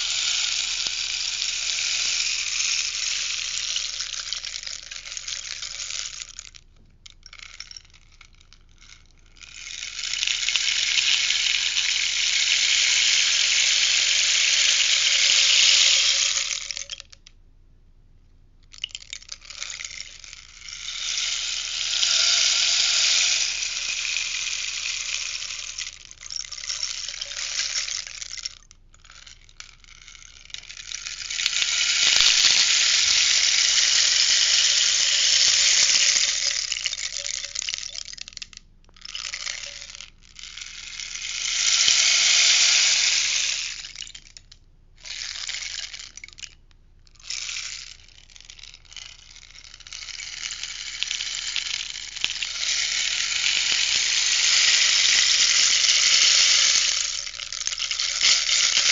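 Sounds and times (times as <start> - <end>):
rainstick beads pouring: 0.0 - 17.2, 18.7 - 46.6, 47.2 - 58.9.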